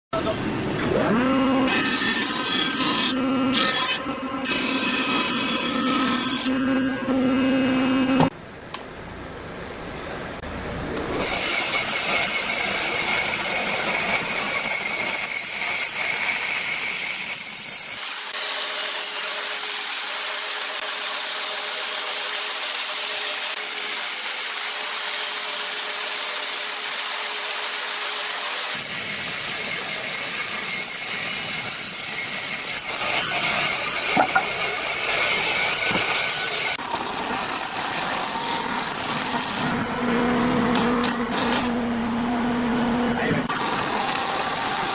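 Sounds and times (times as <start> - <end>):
power woodworking machinery running: 0.2 - 8.3, 11.1 - 44.9.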